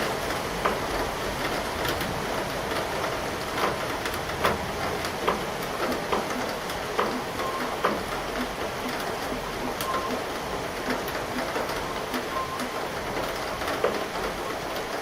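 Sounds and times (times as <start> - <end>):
heavy raindrops ticking: 0.0 - 15.0
steady rain hiss: 0.0 - 15.0.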